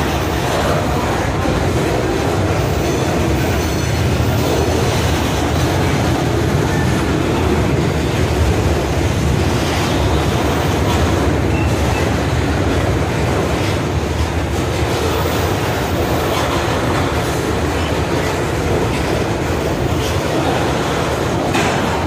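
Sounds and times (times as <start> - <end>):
freight train wheels rolling on rails: 0.0 - 22.0.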